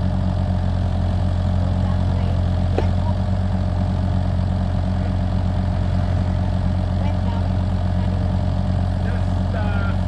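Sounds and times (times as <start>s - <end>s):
excavator diesel engine idling: 0.0s - 10.0s.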